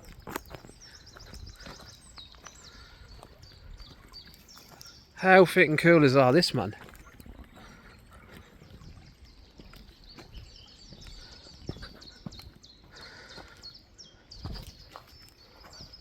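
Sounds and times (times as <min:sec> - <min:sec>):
footsteps on path: 0:00.0 - 0:16.0
small songbirds chirping: 0:00.0 - 0:16.0.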